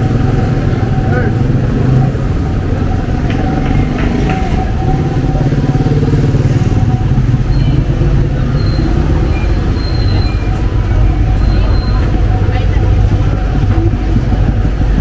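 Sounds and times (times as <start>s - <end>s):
street traffic: 0.0s - 15.0s
vehicle engine rumbling: 0.0s - 15.0s.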